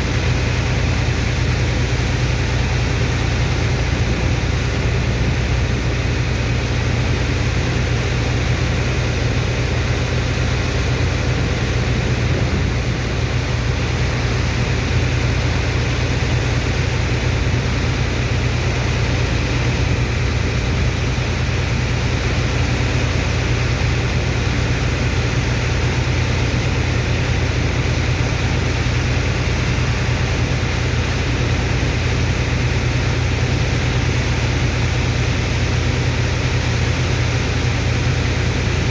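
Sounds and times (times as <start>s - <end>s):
dredger engine and pump drone: 0.0s - 38.9s.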